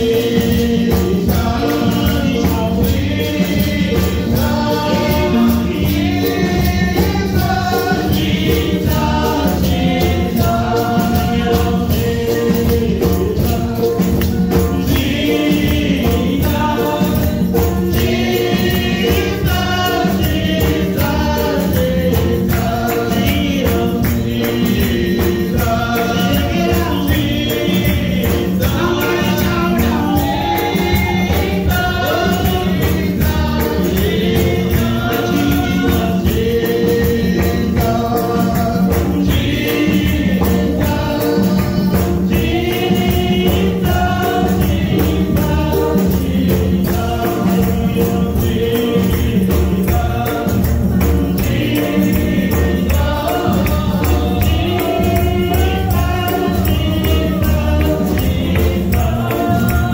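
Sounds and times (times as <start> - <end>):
gospel group singing with band: 0.0 - 59.9.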